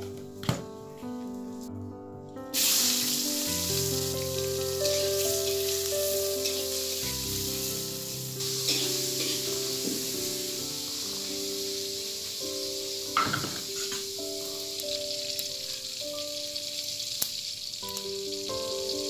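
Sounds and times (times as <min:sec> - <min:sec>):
soft keyboard music: 0:00.0 - 0:19.0
vegetables sizzling in hot oil: 0:02.6 - 0:19.0.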